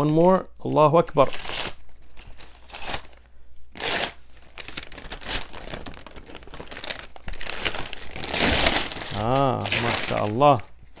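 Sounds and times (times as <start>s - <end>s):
wrapping paper tearing and crumpling: 1.2s - 11.0s.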